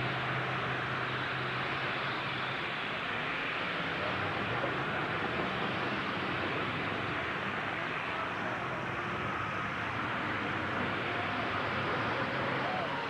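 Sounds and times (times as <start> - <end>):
truck engines running: 0.0 - 13.0.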